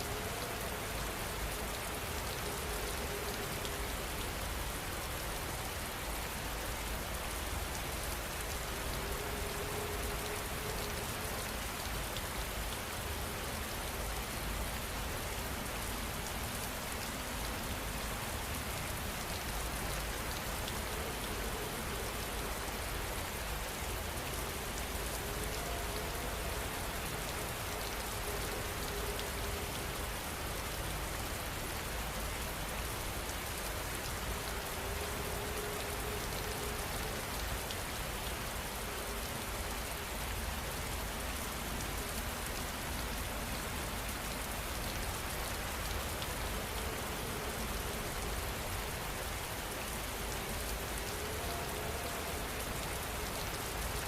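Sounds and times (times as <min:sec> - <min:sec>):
rain pattering on surfaces: 0:00.0 - 0:54.0.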